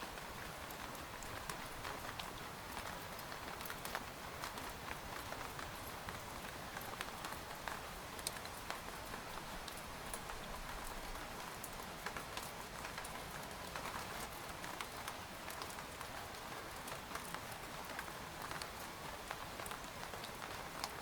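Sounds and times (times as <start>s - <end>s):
rain falling on a tent: 0.0s - 21.0s.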